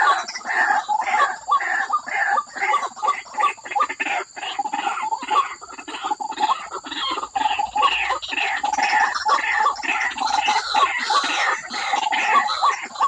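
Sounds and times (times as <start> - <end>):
bird harsh repeated croaks: 0.0 - 13.0.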